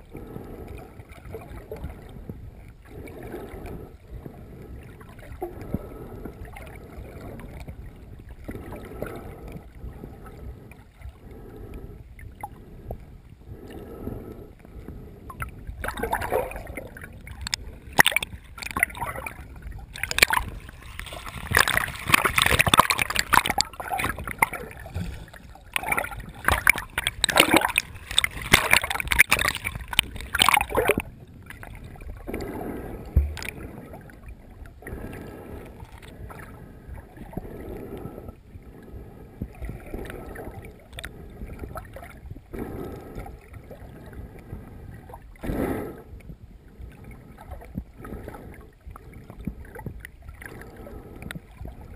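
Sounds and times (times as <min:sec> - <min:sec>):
muffled underwater swishing: 0:00.0 - 0:51.9
water splashing and sloshing: 0:00.0 - 0:51.9.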